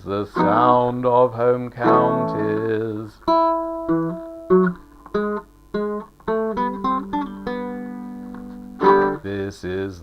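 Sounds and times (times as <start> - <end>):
guitar notes and chords: 0.4 - 1.2, 1.8 - 9.4.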